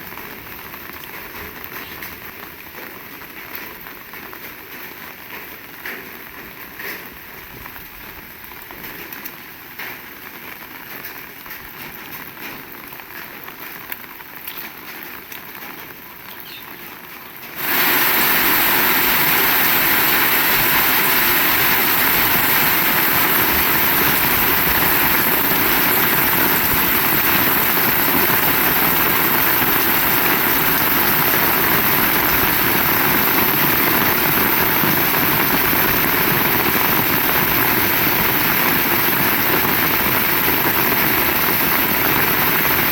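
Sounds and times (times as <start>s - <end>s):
heavy rain hiss: 0.0s - 42.9s
rain falling: 0.0s - 42.9s.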